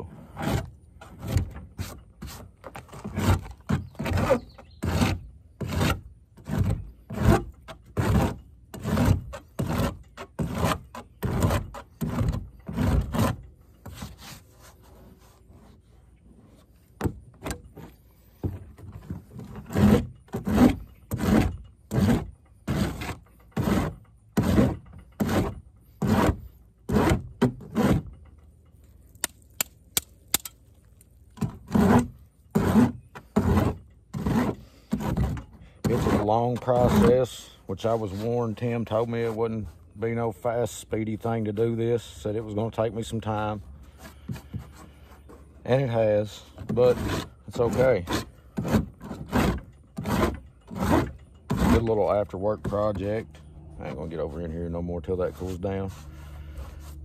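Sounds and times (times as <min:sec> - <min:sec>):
hand rasp scraping plastic: 0:00.0 - 0:28.2, 0:31.3 - 0:39.9, 0:41.3 - 0:57.0.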